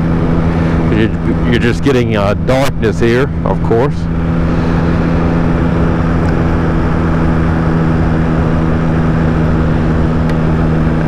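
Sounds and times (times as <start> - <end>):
motorcycle engine hum: 0.0 - 11.0
wind and road noise: 0.0 - 11.0.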